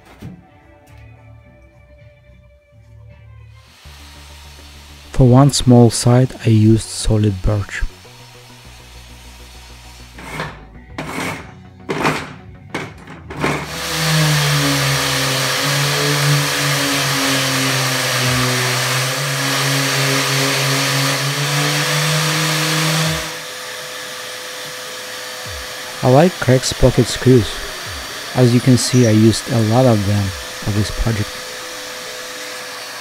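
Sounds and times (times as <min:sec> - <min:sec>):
shop vacuum hum and hiss: 0:03.6 - 0:11.3, 0:13.5 - 0:33.0
orbital sander running: 0:03.6 - 0:12.3, 0:13.3 - 0:33.0.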